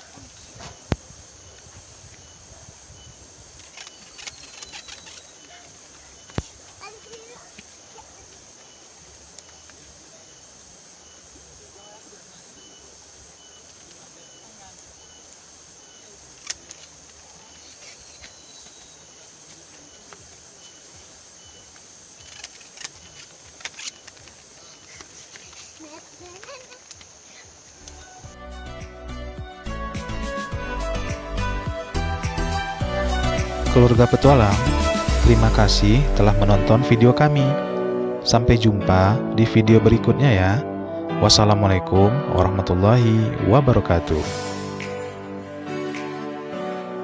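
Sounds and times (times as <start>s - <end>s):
insect chorus hissing: 0.0s - 41.8s, 42.6s - 47.0s.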